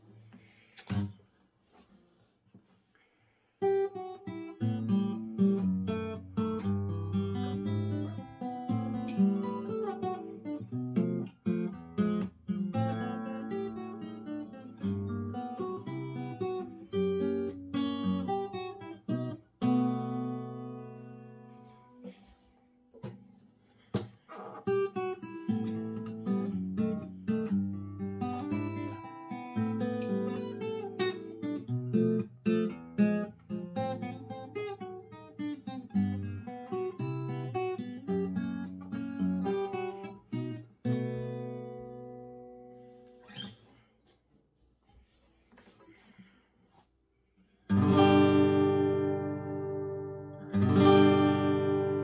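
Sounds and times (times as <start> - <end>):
fingerstyle acoustic guitar: 0.0 - 2.9, 3.6 - 46.8, 47.4 - 52.0.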